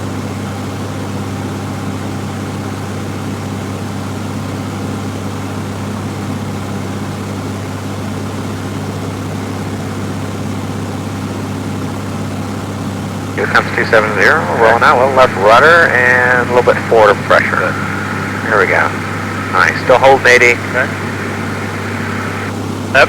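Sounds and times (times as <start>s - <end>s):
airplane engine droning in cabin: 0.0s - 23.0s.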